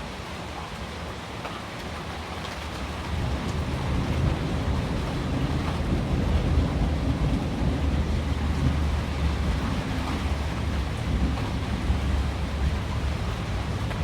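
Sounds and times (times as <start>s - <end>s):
rain and wind: 0.0s - 14.0s.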